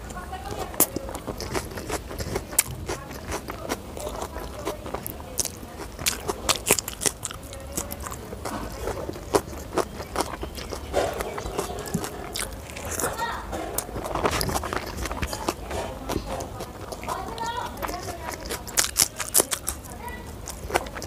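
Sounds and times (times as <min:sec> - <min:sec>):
chewing with wet mouth clicks: 0:00.0 - 0:21.0
crunchy bites of raw chilli: 0:00.6 - 0:21.0.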